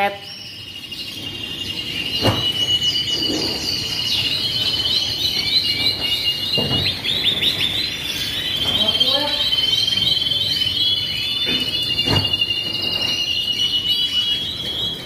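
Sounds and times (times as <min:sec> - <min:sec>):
bird chirps: 0:00.0 - 0:15.0
canaries trilling: 0:00.0 - 0:15.0.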